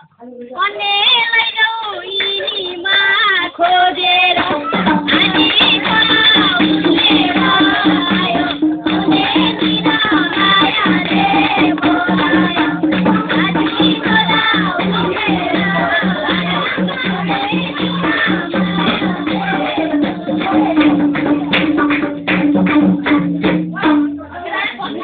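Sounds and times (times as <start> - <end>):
folk duet singing: 0.8 - 21.9
drum and percussion beat: 3.7 - 25.0.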